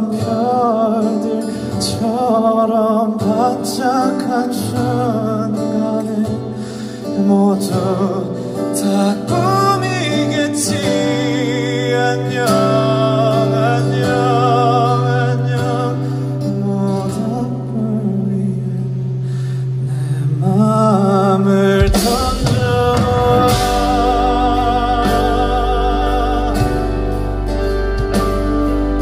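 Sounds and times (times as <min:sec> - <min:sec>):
live band playing: 0:03.2 - 0:18.6, 0:19.2 - 0:29.0.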